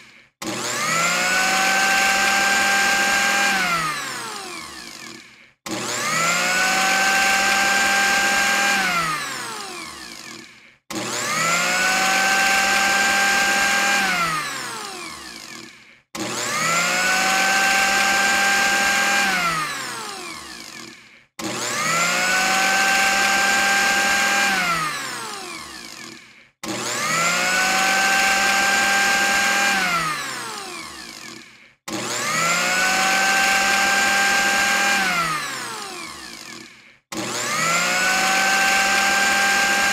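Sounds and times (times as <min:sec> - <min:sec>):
blender motor whining: 0:00.0 - 0:39.9.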